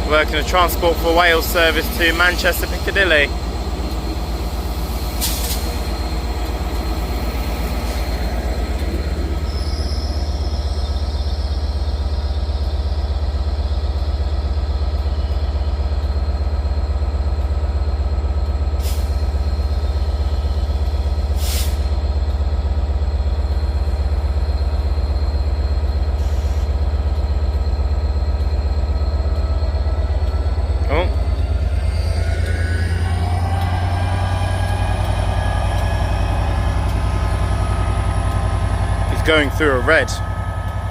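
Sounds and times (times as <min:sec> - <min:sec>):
diesel train droning: 0:00.0 - 0:40.9.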